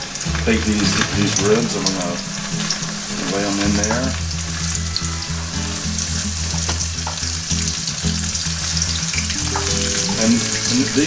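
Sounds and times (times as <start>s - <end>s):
low hum: 0.0s - 11.0s
ribs sizzling in hot oil: 0.0s - 11.0s.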